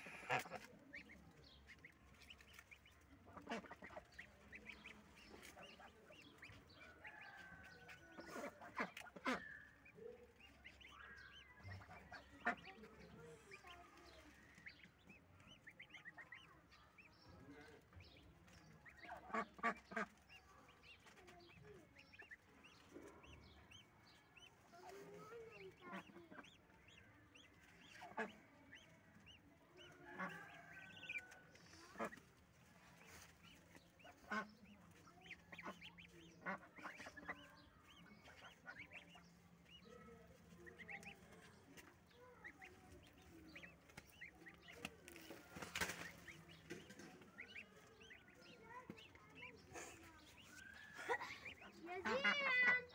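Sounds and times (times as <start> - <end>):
goslings peeping: 0.0 - 52.9.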